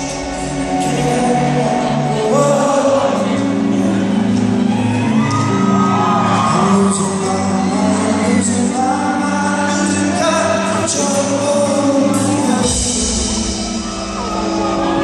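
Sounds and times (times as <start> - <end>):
indie rock band playing live: 0.0 - 15.0
man singing lead vocal: 0.0 - 15.0.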